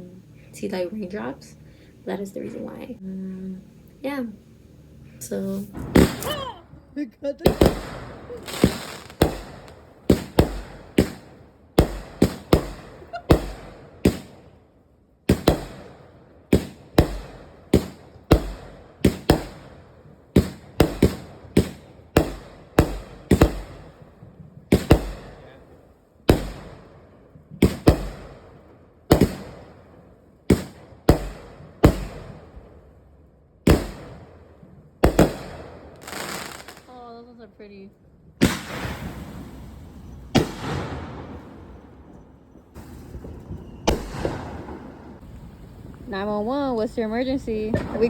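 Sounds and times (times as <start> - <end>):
fireworks banging: 5.2 - 14.6, 15.3 - 33.0, 33.6 - 37.4, 38.4 - 48.0.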